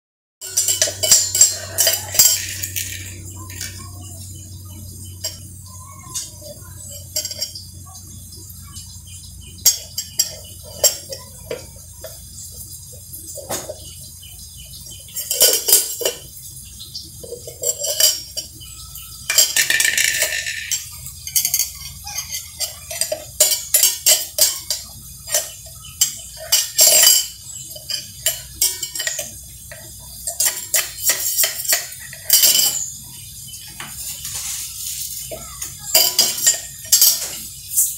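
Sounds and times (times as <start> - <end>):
metal spoon clinking in steel jar: 0.4 - 8.0, 9.5 - 12.7, 14.6 - 37.9
steel lid clattering: 0.4 - 37.9.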